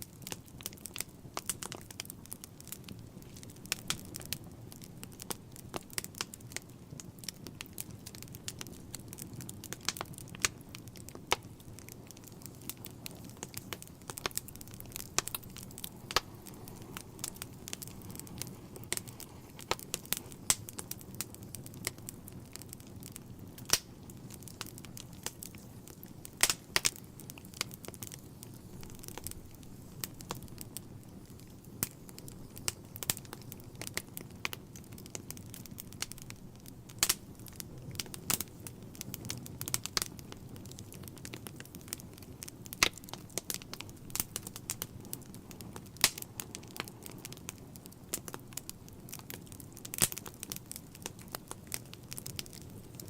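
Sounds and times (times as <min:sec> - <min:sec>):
low roar of flames: 0:00.0 - 0:53.0
wood fire crackling and popping: 0:00.0 - 0:53.0.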